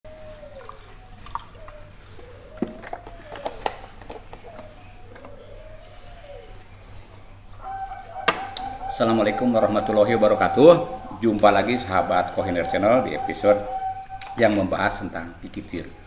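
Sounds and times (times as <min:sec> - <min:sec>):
low steady hum: 0:00.1 - 0:16.0.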